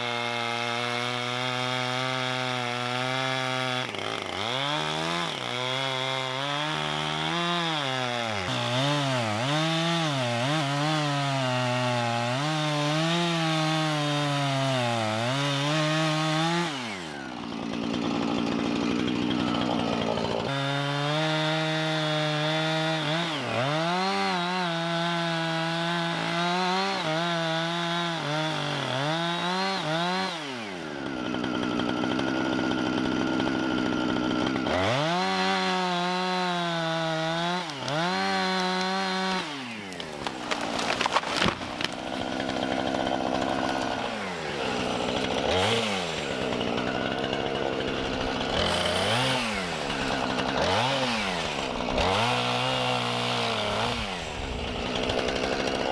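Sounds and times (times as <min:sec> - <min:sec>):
chainsaw cutting: 0:00.0 - 0:55.9.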